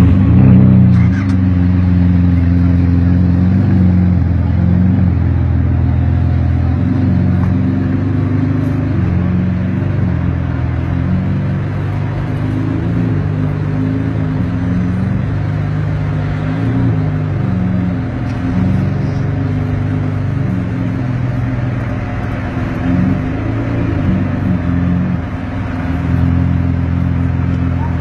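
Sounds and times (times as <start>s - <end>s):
car engine at low revs: 0.0s - 28.0s.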